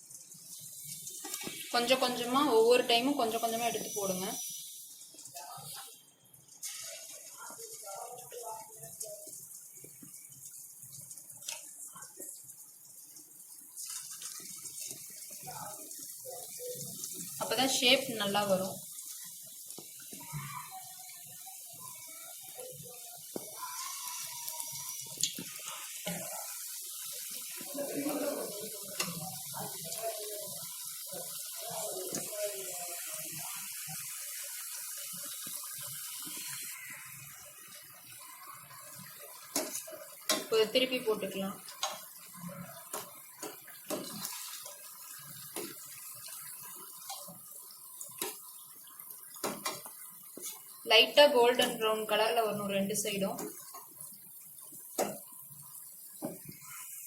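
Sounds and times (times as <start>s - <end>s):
batter deep-frying sizzling: 0.0s - 57.0s.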